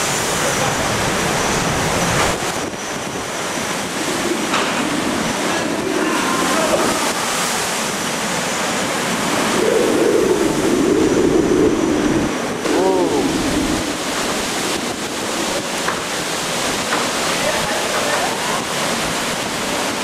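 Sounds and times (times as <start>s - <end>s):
strong wind with heavy rain: 0.0s - 20.0s
wavering wind howl: 0.0s - 20.0s.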